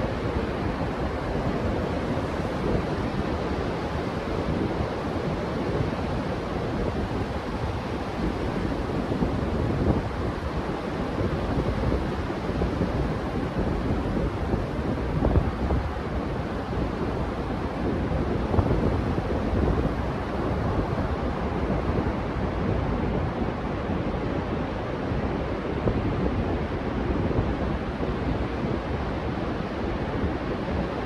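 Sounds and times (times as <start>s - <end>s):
wind noise on microphone: 0.0s - 31.0s.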